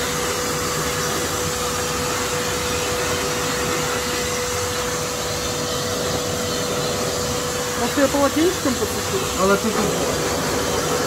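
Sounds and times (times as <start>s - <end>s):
blow dryer rushing air: 0.0s - 11.0s.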